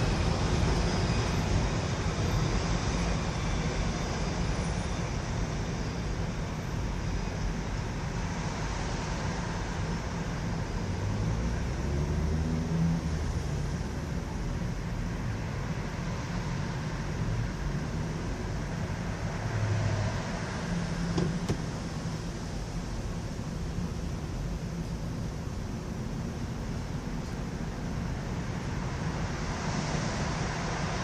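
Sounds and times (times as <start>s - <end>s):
subway train rumble and rail noise: 0.0s - 31.0s.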